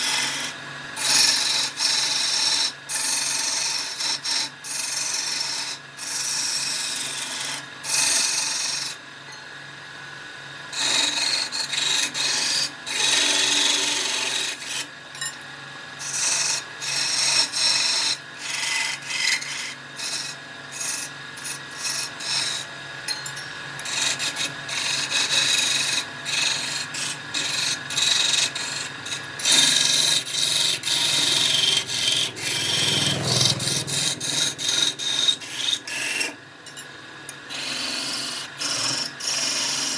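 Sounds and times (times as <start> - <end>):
turning tool scraping spinning wood: 0.0 - 9.0, 10.8 - 15.3, 16.0 - 22.7, 23.3 - 36.4, 37.5 - 39.9
lathe motor hum: 0.1 - 9.0, 10.7 - 36.4.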